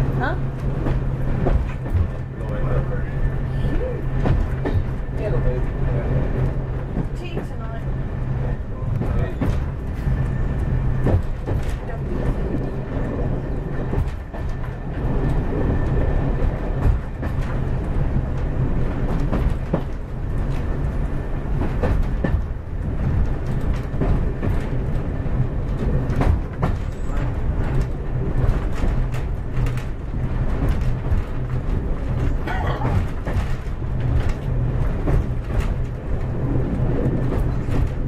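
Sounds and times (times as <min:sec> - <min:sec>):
track clicks and knocks: 0:00.0 - 0:02.9, 0:04.2 - 0:07.8, 0:08.4 - 0:38.0
diesel engine and wheels rumbling: 0:00.0 - 0:38.0.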